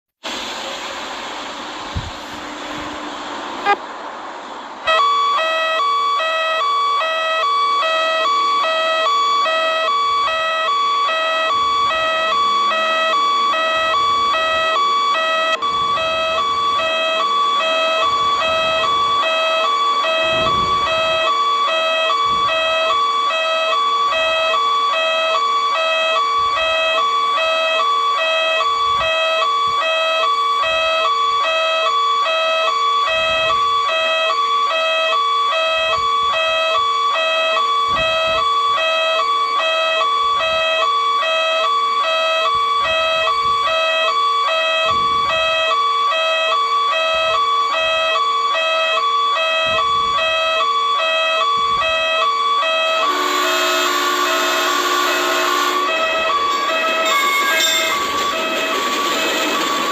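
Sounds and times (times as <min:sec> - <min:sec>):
railroad crossing bell ringing: 0:04.8 - 0:59.9.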